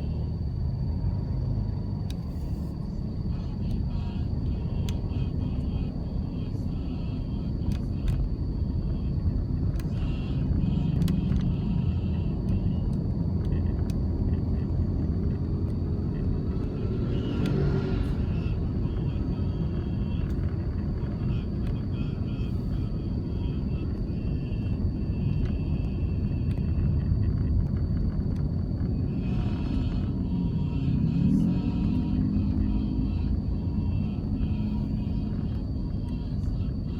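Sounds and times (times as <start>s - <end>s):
car engine rumble: 0.0s - 36.9s
tyres on road: 0.0s - 36.9s.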